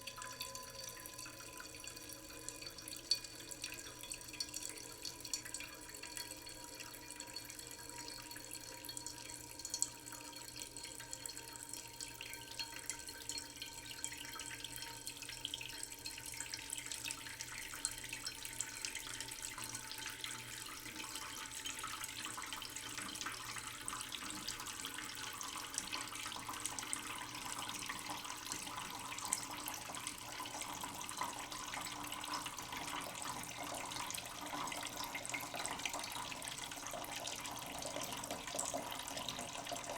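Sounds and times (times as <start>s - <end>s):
tap water filling a pot: 0.0s - 39.9s.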